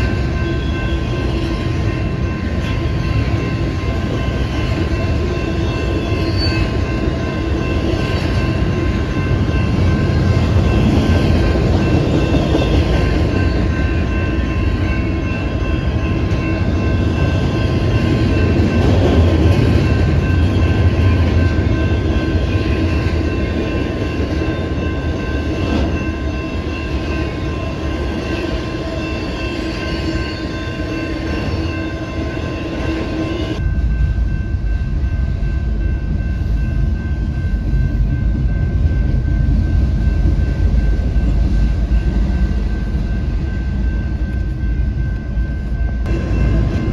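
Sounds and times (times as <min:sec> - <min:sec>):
train running on rails: 0:00.0 - 0:46.9.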